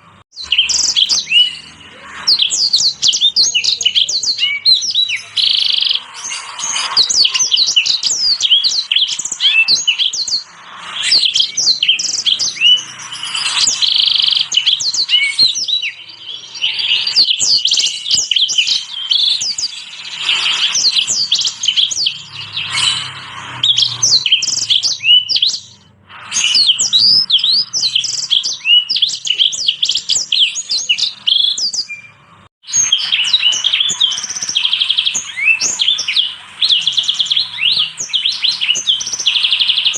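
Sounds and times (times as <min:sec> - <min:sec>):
finches chirping and twittering: 0:00.4 - 0:39.9.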